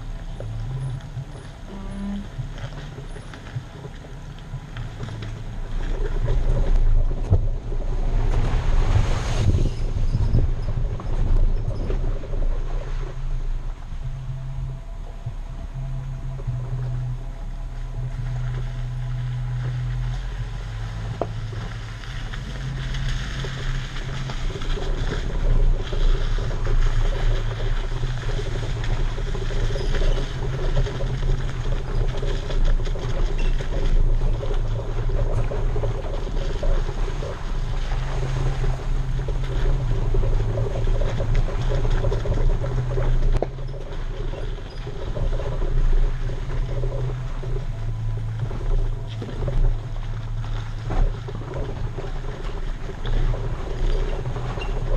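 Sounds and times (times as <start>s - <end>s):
car engine running: 0.0s - 54.9s
tyres crunching on gravel: 0.0s - 54.9s.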